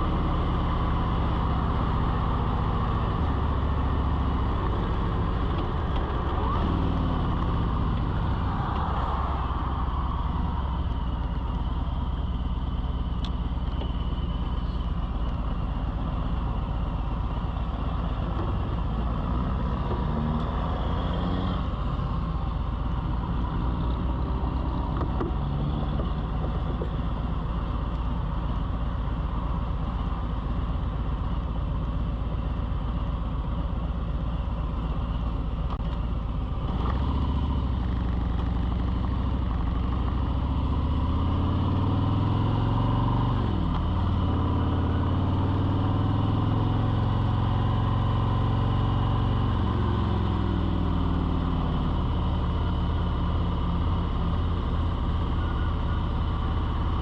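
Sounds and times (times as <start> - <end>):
motor vehicle engine rumble: 0.0 - 57.0.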